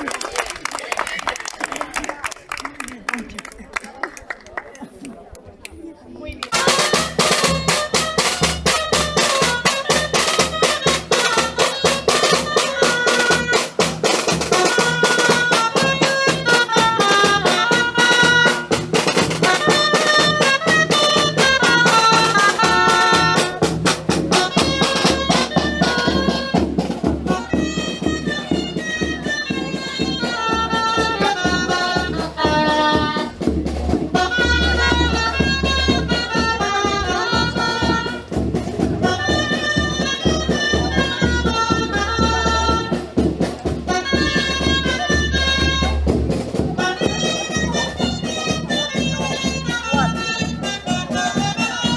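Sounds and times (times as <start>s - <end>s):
fast drum beat: 6.5s - 51.9s
shawm playing dance tune: 6.5s - 51.9s.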